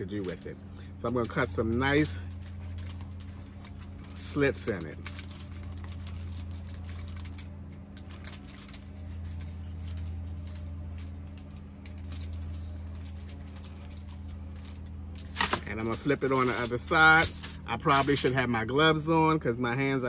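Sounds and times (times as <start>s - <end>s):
foil crinkling: 0.0s - 19.2s
steady low hum: 0.0s - 20.0s.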